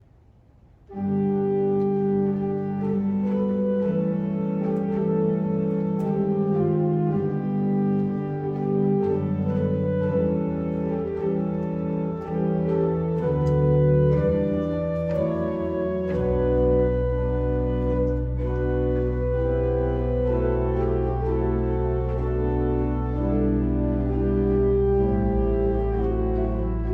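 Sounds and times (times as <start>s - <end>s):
organ chords: 0.9s - 26.9s.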